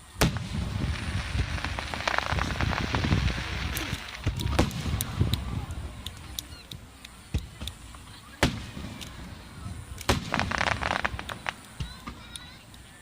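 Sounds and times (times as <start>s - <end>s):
fireworks booming: 0.0s - 12.7s
fireworks crackling: 0.0s - 13.0s.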